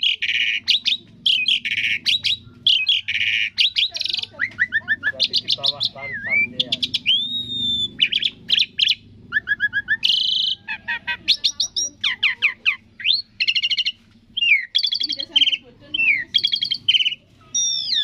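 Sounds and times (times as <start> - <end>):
starling singing: 0.0 - 18.0.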